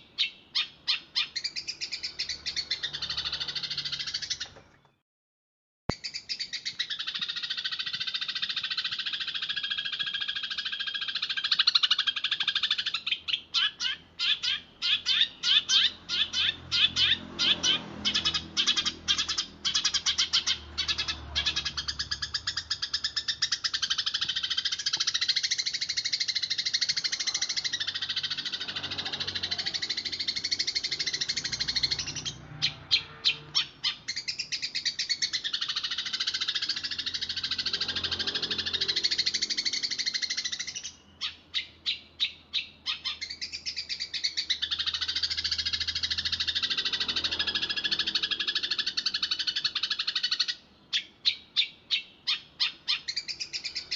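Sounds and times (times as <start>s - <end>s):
separate sparrow chirps: 0.0s - 5.0s, 5.9s - 53.9s
sparrows chattering: 0.0s - 5.0s, 5.9s - 53.9s.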